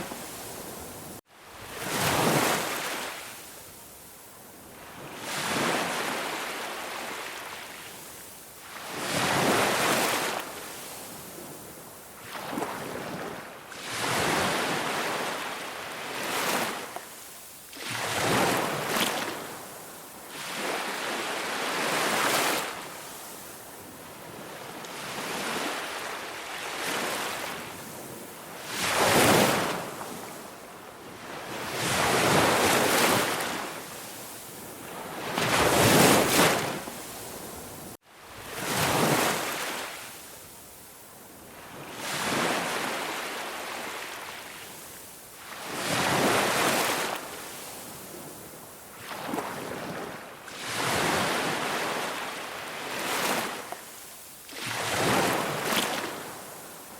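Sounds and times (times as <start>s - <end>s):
waves breaking on a beach: 0.0s - 56.9s.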